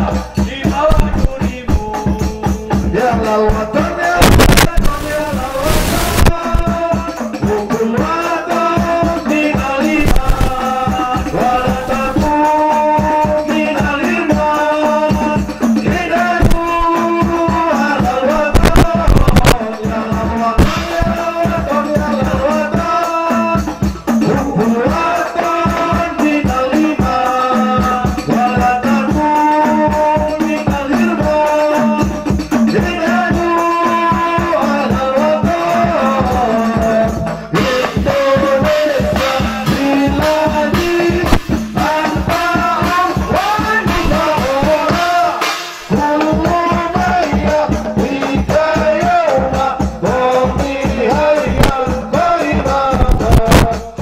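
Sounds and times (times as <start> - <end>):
hand-beaten frame drums: 0.0 - 54.0
man singing into a microphone: 0.0 - 54.0.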